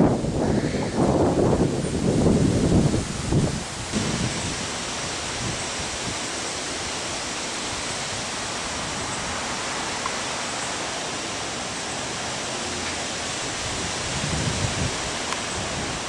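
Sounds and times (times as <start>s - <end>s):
heavy rain: 0.0s - 16.0s
strong wind: 0.0s - 16.0s.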